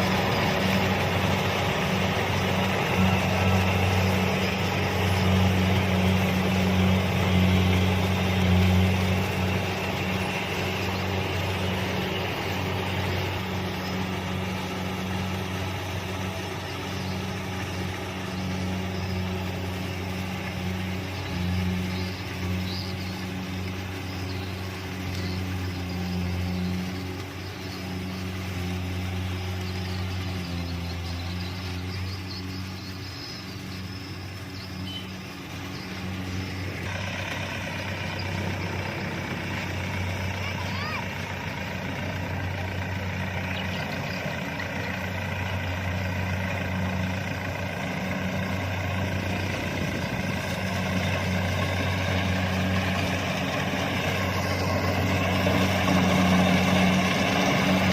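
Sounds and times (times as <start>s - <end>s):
combine harvester diesel engine hum: 0.0s - 57.9s
machinery noise: 0.0s - 57.9s.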